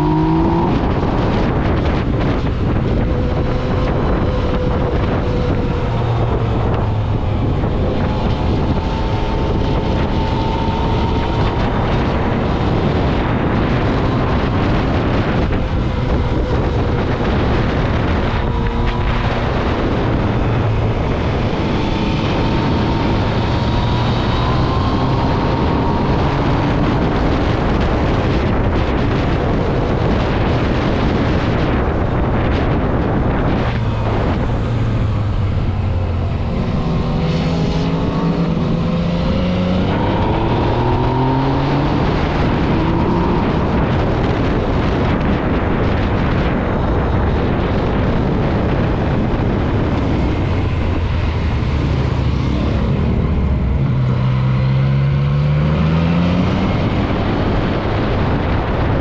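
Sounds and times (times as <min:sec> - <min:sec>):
motorcycle engine running: 0:00.0 - 0:54.8
wind rush on microphone: 0:00.0 - 0:59.0.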